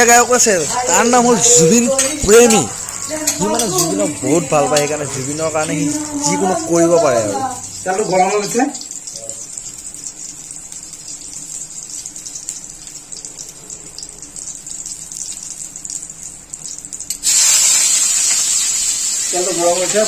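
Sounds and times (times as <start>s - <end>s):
oil sizzling in pan: 0.0s - 20.0s.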